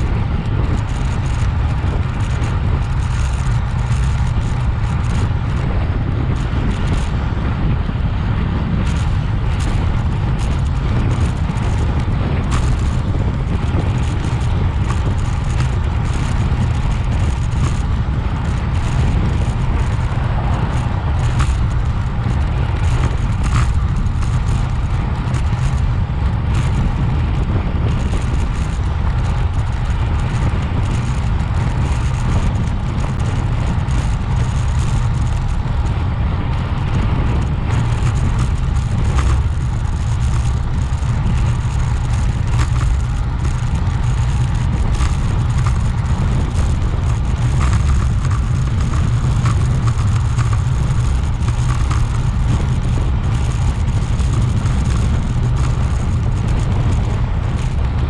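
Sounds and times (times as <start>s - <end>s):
wind rumbling on microphone: 0.0s - 58.0s.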